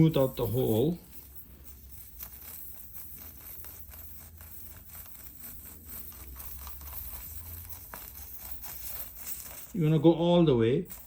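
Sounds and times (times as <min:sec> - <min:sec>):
rasp tool scraping in tire: 0:00.0 - 0:10.3.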